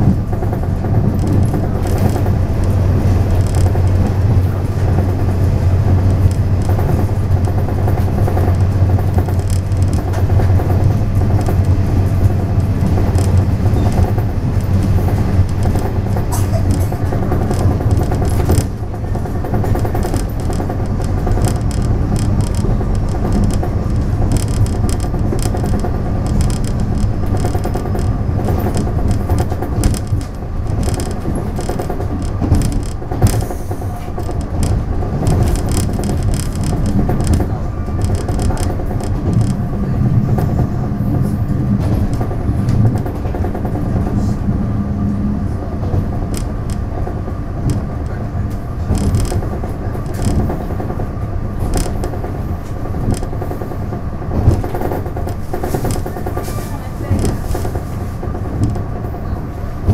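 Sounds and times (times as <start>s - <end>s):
low diesel drone: 0.0s - 59.9s
wheels clattering on rail: 0.0s - 59.9s.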